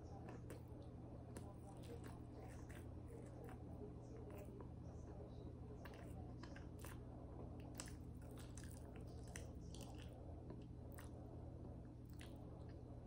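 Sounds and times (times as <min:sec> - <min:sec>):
steady low hum: 0:00.0 - 0:13.0
person chewing food: 0:00.1 - 0:04.7, 0:05.8 - 0:13.0.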